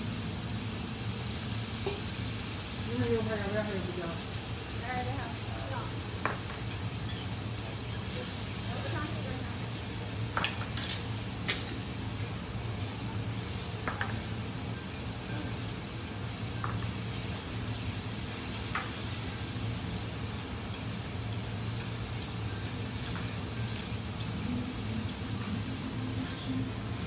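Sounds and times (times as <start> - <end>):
meat sizzling on a griddle: 0.0 - 27.0.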